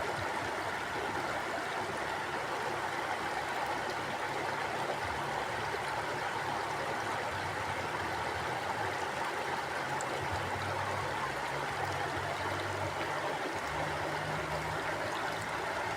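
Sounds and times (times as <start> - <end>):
mountain stream rushing: 0.0 - 15.9.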